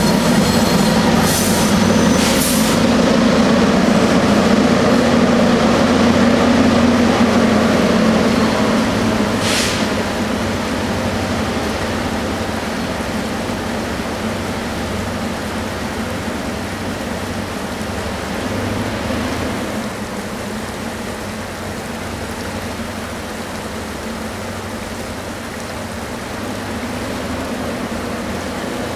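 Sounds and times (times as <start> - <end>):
diesel locomotives under load: 0.0 - 28.9.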